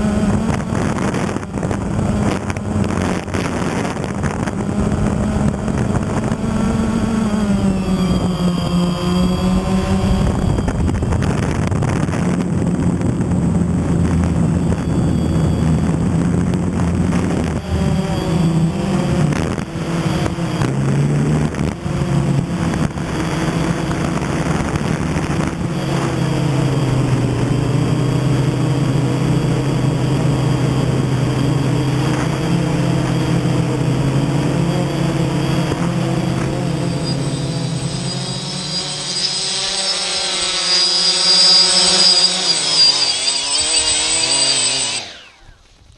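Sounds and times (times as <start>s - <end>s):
drone propellers whirring: 0.0s - 45.9s.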